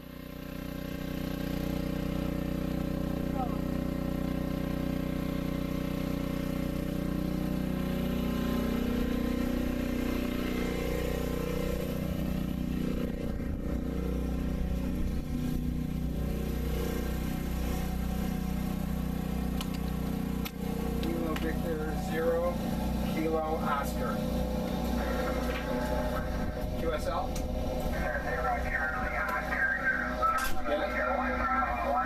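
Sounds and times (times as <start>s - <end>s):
large engine idling: 0.0s - 32.0s.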